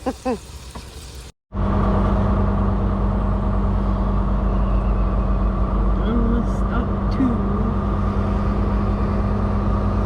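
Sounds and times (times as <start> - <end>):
truck engine drone: 1.1 - 10.0.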